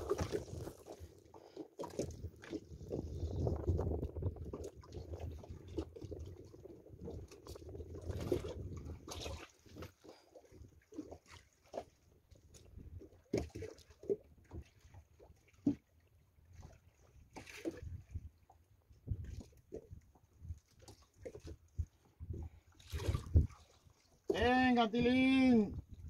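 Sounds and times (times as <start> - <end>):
knocks and splashes: 0.0 - 18.3, 19.0 - 24.6
water lapping against boat: 0.0 - 26.0.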